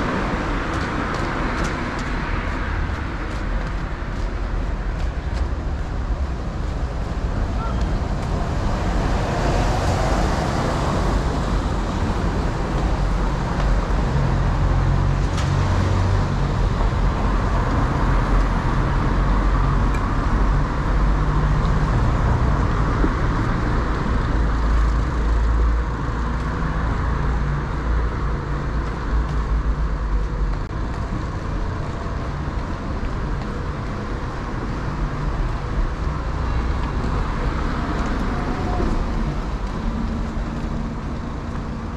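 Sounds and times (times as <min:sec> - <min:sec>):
traffic engine rumble: 0:00.0 - 0:41.9.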